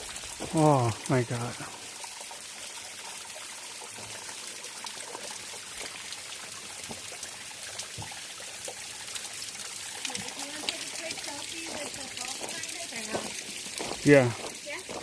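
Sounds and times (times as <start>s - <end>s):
waterfall splashing: 0.0s - 2.3s, 5.2s - 15.0s.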